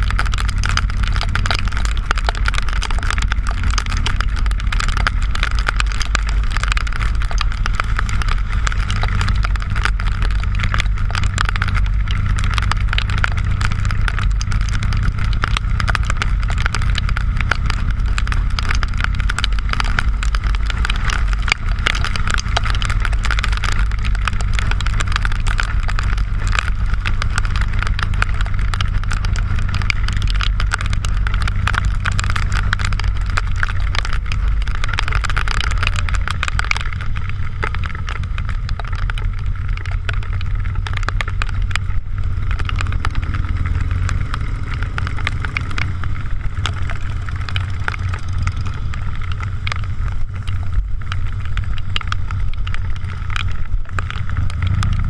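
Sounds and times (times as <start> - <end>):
motorcycle engine cruising: 0.0 - 55.0
wind and tyres on wet road: 0.0 - 55.0.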